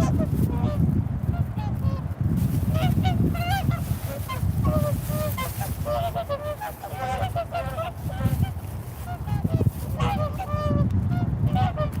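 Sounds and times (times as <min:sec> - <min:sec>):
swans honking: 0:00.0 - 0:10.8.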